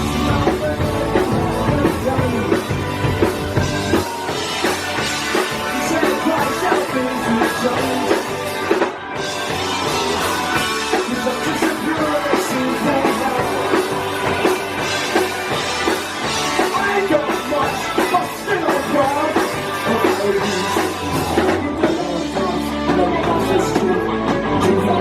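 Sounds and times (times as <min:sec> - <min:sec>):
drum kit: 0:00.0 - 0:25.0
electric guitars: 0:00.0 - 0:25.0.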